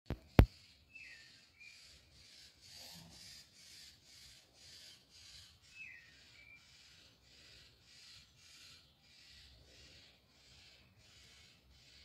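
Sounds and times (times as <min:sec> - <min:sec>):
bird chirping: 0:00.1 - 0:12.0.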